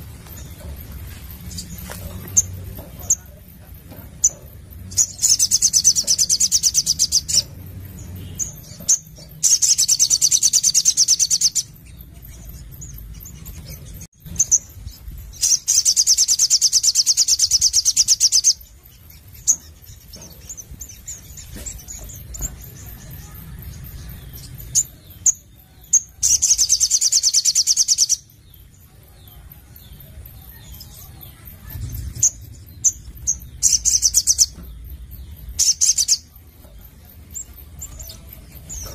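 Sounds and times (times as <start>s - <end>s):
bird high-pitched trills: 0.0s - 38.9s.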